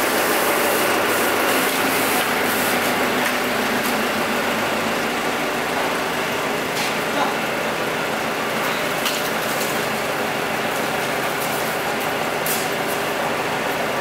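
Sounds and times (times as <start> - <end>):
diesel generator engine droning: 0.0 - 14.0.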